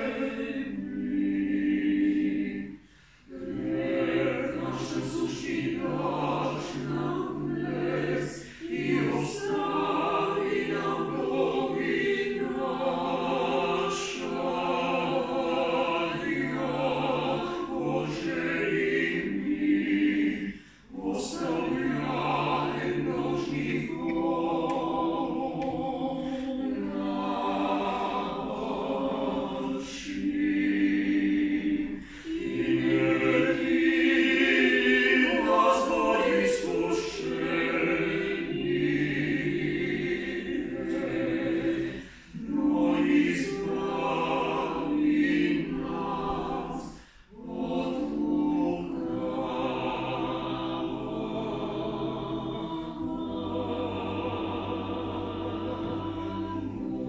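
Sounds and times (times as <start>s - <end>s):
a cappella vocal harmony: 0.0s - 57.0s.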